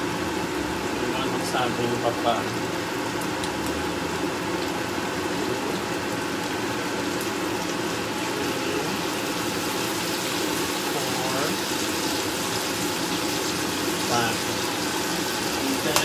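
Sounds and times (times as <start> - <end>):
liquid simmering in a frying pan: 0.0 - 16.0.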